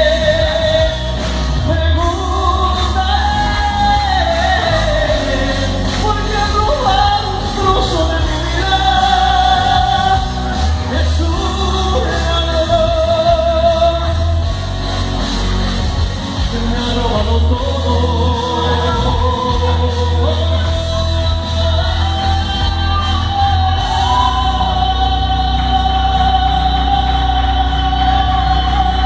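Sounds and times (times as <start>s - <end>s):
man singing into microphone: 0.0s - 15.0s, 16.3s - 29.0s
backing track with heavy bass: 0.0s - 29.0s.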